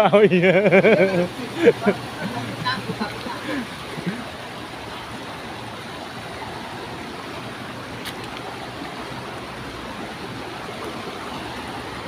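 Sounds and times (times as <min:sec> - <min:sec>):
river water rushing over a step: 0:00.0 - 0:12.0.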